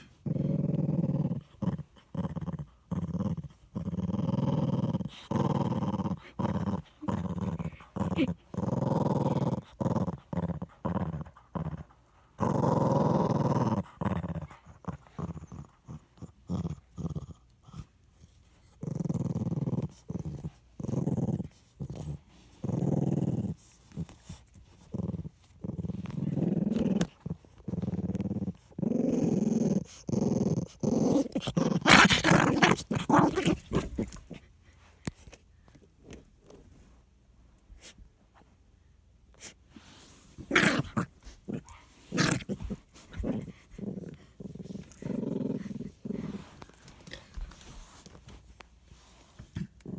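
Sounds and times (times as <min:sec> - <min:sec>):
small dog growling: 0:00.0 - 0:18.0, 0:18.6 - 0:34.5, 0:40.4 - 0:47.7.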